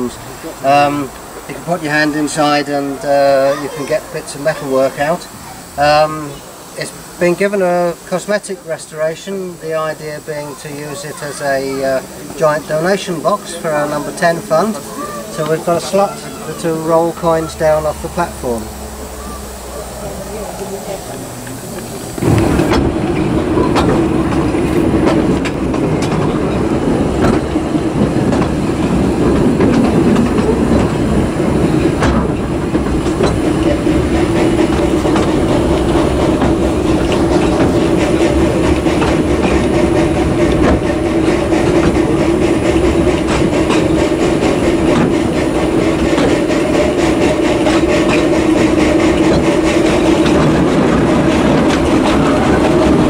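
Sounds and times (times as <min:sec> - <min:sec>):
train rumble: 0:00.0 - 0:53.0
wheels clicking over rail joints: 0:00.0 - 0:53.0.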